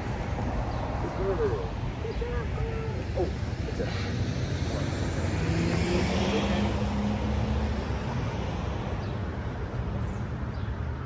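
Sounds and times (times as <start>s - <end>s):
motor vehicle passing: 0.0s - 9.1s
steady traffic rumble: 0.0s - 11.0s.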